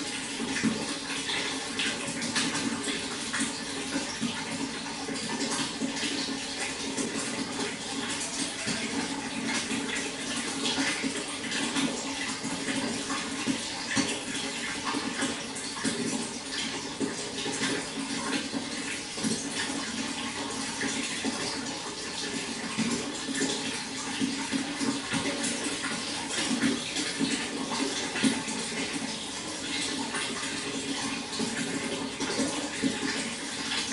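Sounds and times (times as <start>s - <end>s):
running water splashing: 0.0s - 33.9s.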